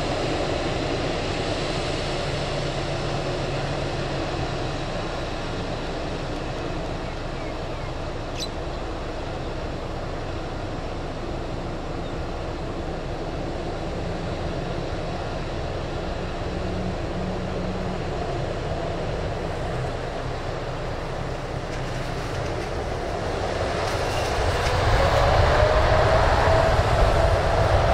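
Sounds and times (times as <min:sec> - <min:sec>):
jet engines rumbling: 0:00.0 - 0:27.9.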